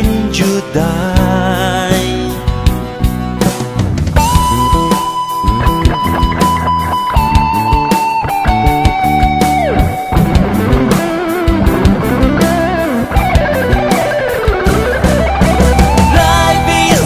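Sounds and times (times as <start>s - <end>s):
drum beat and bass: 0.0s - 17.0s
electric guitar lead melody: 0.0s - 17.0s.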